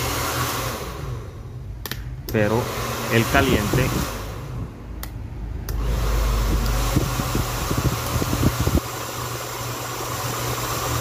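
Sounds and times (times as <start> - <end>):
hair dryer running: 0.0 - 1.3, 2.4 - 4.7, 5.7 - 11.0.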